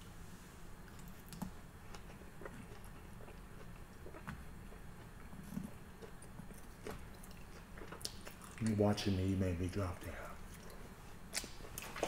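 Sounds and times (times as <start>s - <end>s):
low steady room hum: 0.0s - 12.0s
faint chewing: 0.8s - 8.9s, 10.0s - 12.0s.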